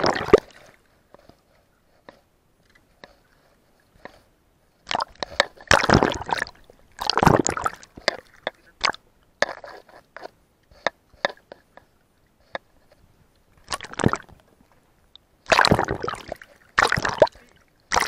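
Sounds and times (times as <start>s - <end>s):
water sloshing and splashing: 0.0s - 1.5s, 2.6s - 10.4s, 11.1s - 18.0s.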